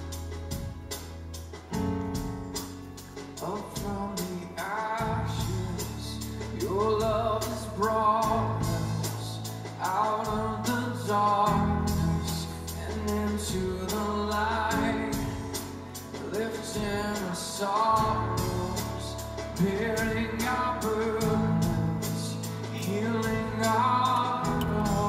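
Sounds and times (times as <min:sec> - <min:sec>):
drums keeping a beat: 0:00.0 - 0:25.0
guitar: 0:00.0 - 0:25.0
sustained bass notes: 0:00.0 - 0:25.0
person singing lead: 0:03.4 - 0:25.0.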